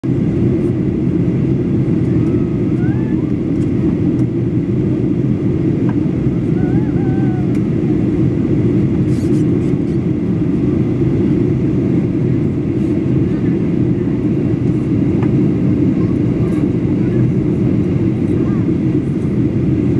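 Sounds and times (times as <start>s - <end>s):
aircraft cabin engine roar: 0.0s - 19.9s.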